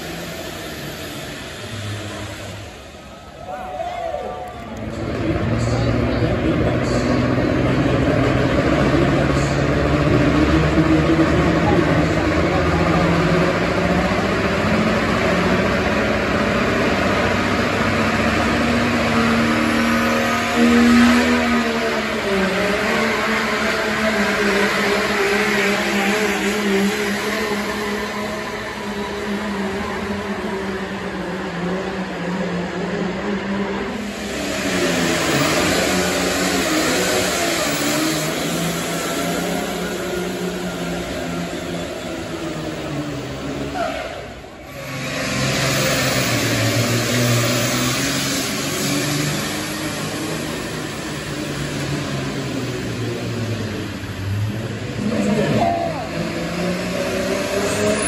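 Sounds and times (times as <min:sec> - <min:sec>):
pickup truck engine revving: 0:04.8 - 0:43.8, 0:44.7 - 0:58.0.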